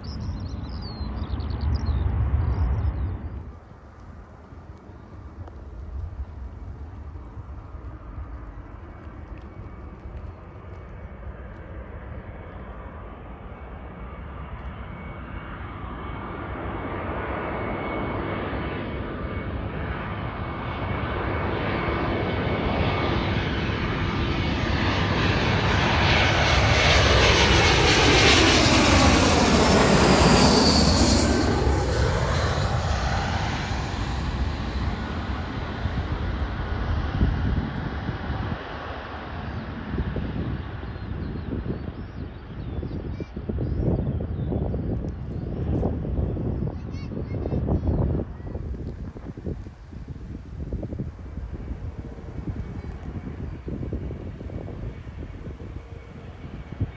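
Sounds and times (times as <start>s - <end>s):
jet airliner passing: 0.0s - 56.9s.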